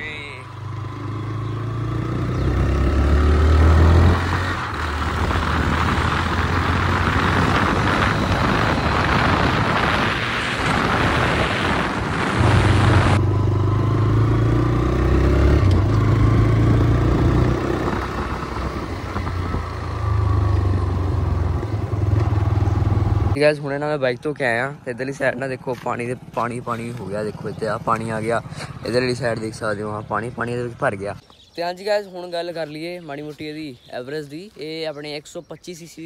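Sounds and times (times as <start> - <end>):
motorcycle engine accelerating: 0.0 - 23.4, 25.1 - 30.8
wind and road noise: 0.0 - 36.0.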